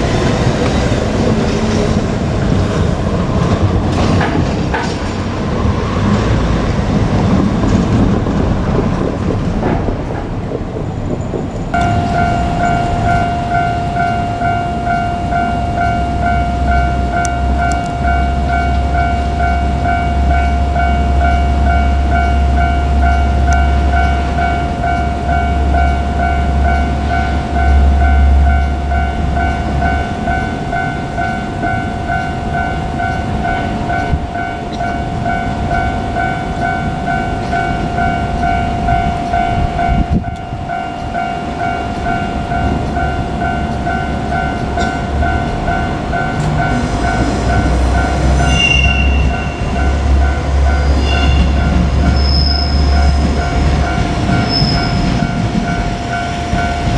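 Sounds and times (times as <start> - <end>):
level crossing warning bell: 0.0 - 8.1, 11.7 - 56.9
railcar engine rumbling: 0.0 - 56.9
wheels clacking: 0.0 - 56.9.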